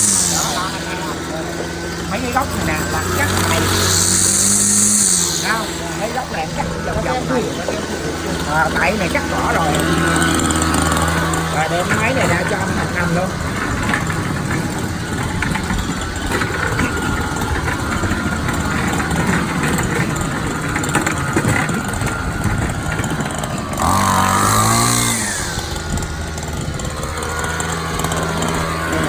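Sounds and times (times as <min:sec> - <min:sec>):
grass-cutter engine running: 0:00.0 - 0:29.0.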